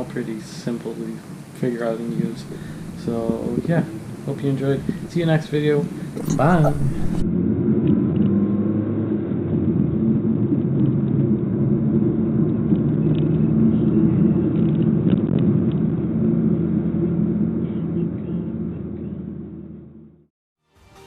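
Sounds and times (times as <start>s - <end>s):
road noise: 0.0s - 20.2s
car engine droning: 0.0s - 20.3s.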